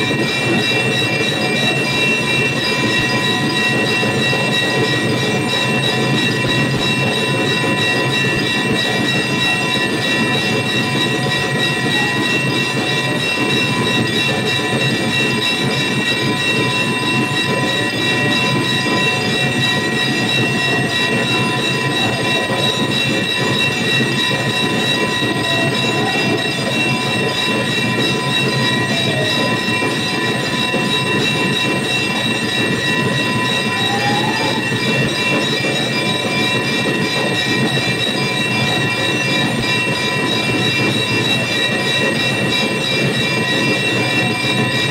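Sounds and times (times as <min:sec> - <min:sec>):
ringing metal tones: 0:00.0 - 0:44.9
temple bells clanging: 0:00.0 - 0:44.9.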